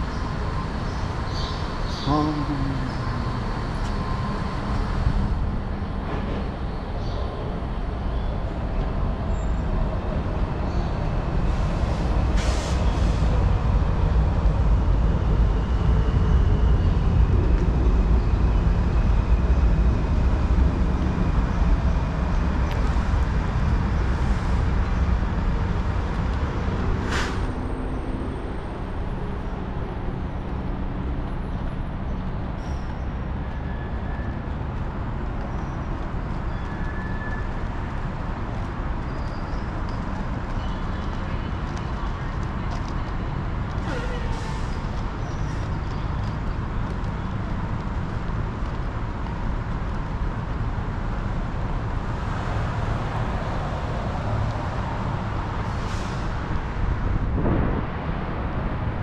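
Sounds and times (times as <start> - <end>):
metro train rumble: 0.0 - 59.0.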